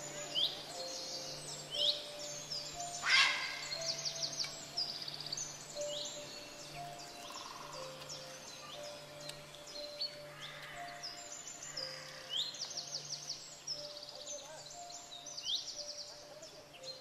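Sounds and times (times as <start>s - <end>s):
birds chirping and singing: 0.0s - 17.0s
quiet background music: 0.0s - 17.0s.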